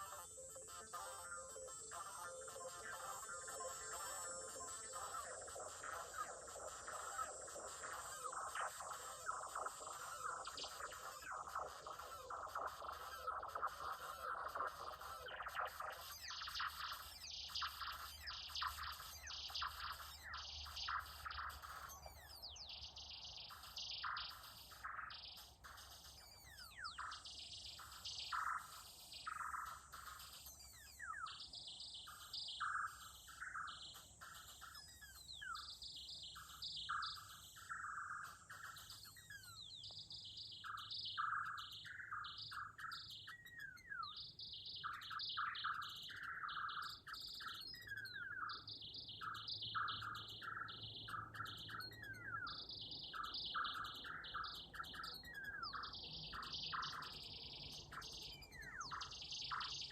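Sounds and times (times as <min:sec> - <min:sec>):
synthesizer chirping notes: 0:00.0 - 0:59.9.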